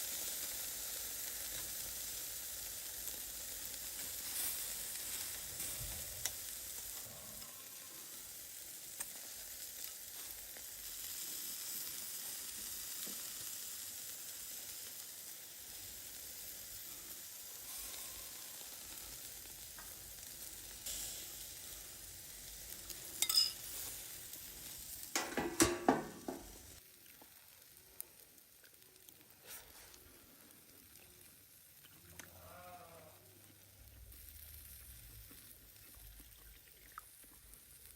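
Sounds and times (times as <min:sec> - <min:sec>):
steak sizzling on a grill: 0:00.0 - 0:32.4, 0:33.2 - 0:36.2, 0:37.1 - 0:37.9
wood fire crackles: 0:00.0 - 0:37.9.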